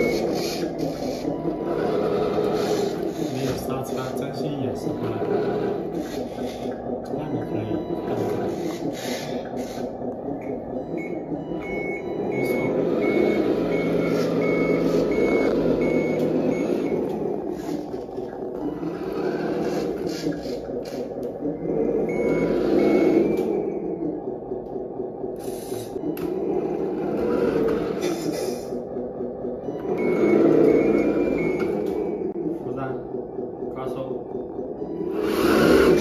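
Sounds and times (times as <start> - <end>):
diesel truck engine sound: 0.0 - 36.0
reversing beeper beeps: 0.0 - 36.0.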